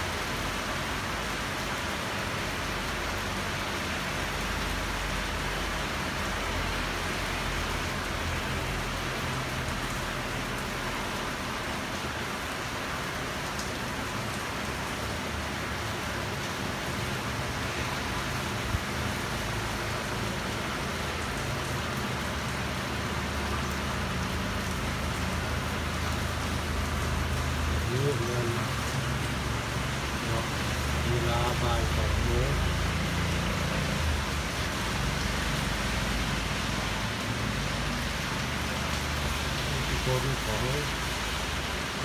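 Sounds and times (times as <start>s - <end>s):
heavy rain falling: 0.0s - 42.0s
traffic rumble on wet street: 0.0s - 42.0s.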